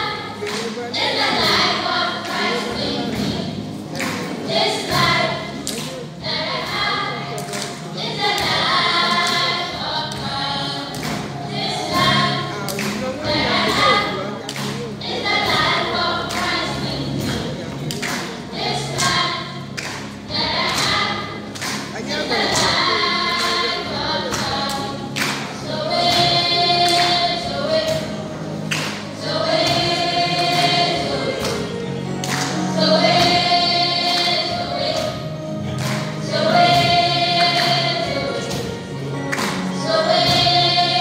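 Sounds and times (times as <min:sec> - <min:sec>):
children's choir singing: 0:00.0 - 0:41.0
lead voice on a microphone: 0:00.0 - 0:41.0.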